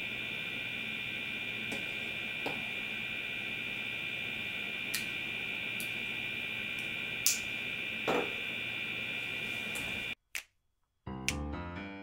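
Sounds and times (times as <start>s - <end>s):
steady high whine: 0.0s - 10.2s.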